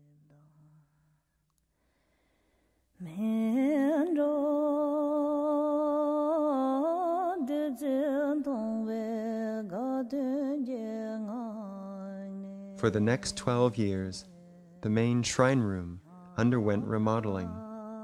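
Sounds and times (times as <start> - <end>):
person singing slow melody: 3.0 - 18.0.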